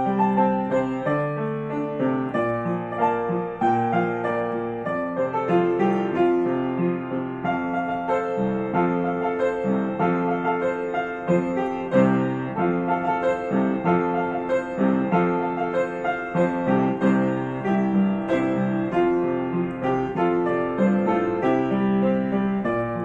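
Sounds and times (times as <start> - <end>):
piano melody over low chords: 0.0 - 23.0.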